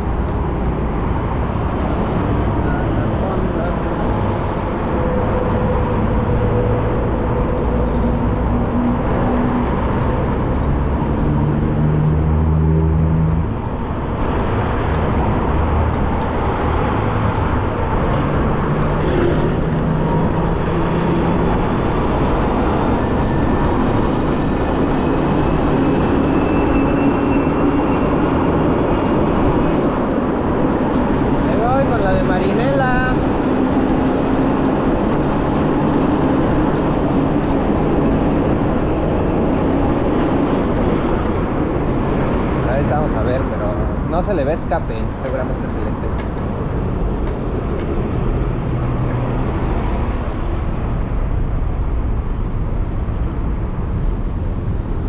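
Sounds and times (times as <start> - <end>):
road traffic noise: 0.0 - 55.0
vehicle engines passing: 0.0 - 55.0.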